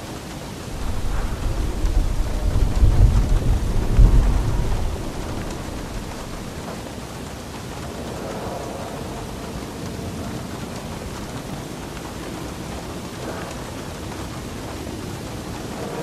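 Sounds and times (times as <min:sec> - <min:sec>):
steady rain: 0:00.0 - 0:16.0
thunder rumbling: 0:00.2 - 0:16.0.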